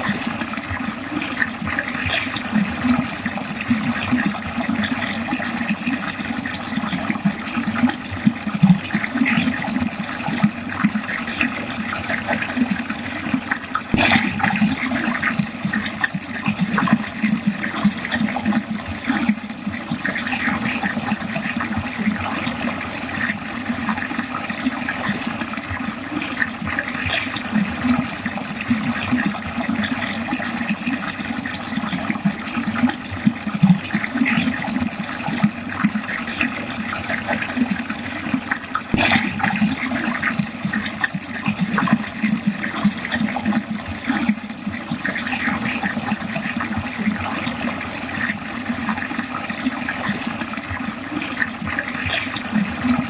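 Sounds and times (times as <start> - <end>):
water gurgling down a drain: 0.0 - 53.0.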